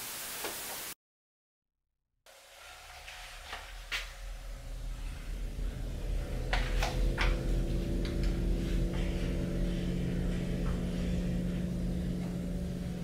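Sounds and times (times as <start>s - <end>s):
low droning hum: 2.3s - 13.0s.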